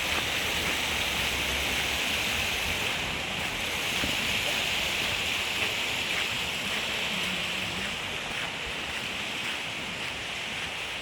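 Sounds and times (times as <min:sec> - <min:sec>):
steady outdoor rushing hiss: 0:00.0 - 0:11.0.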